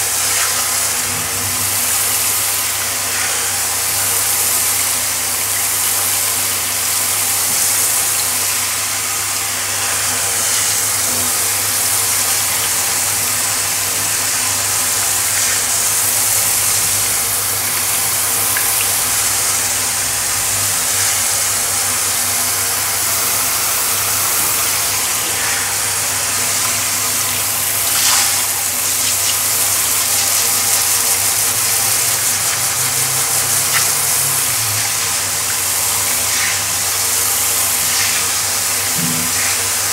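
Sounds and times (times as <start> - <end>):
water spraying onto tiled floor: 0.0 - 39.9.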